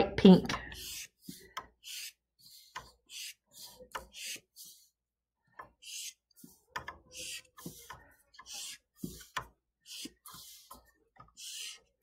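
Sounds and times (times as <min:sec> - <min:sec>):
marker scratching on paper: 0:00.6 - 0:12.0.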